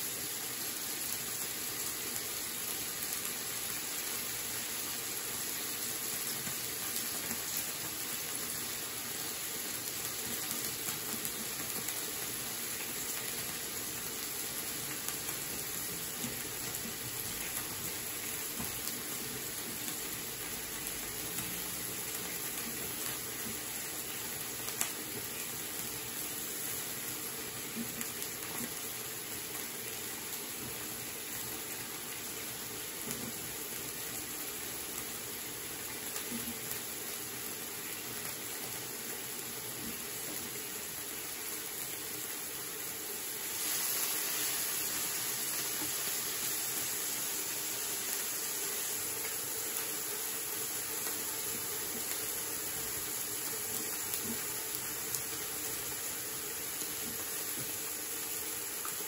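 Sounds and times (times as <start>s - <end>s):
meat sizzling on griddle: 0.0s - 59.0s.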